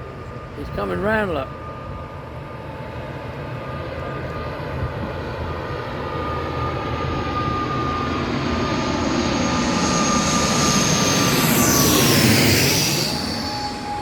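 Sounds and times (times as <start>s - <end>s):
aeroplane engine whine: 0.0s - 14.0s.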